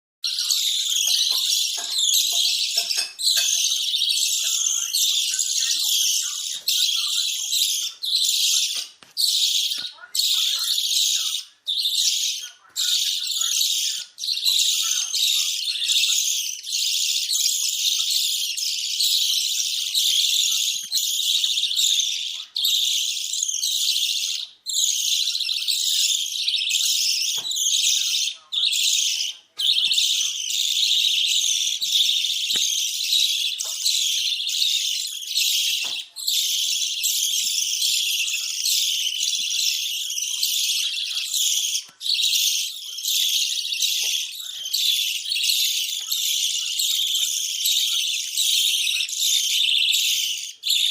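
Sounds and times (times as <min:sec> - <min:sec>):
budgerigars chattering: 0:00.2 - 0:50.9.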